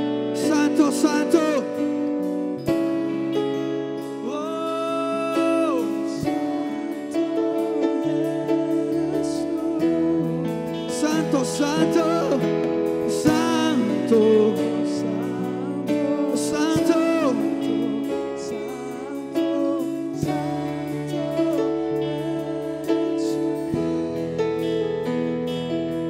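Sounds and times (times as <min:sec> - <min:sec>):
guitar held chords: 0:00.0 - 0:26.0.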